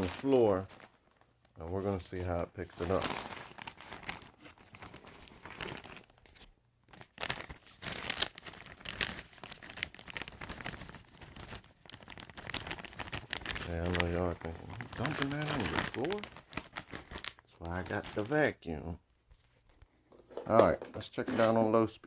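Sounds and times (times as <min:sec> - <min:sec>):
plastic bag crinkling: 0:00.0 - 0:18.6.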